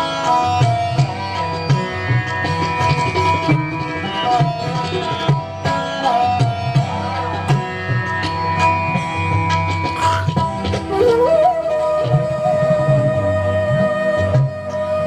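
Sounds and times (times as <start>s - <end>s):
sitar-like keyboard melody: 0.0s - 15.0s
tabla rhythm: 0.0s - 15.0s.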